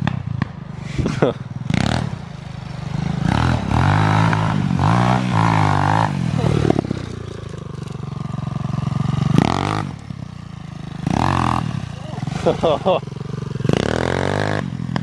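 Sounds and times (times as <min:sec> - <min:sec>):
motorbike engine revving: 0:00.0 - 0:15.0.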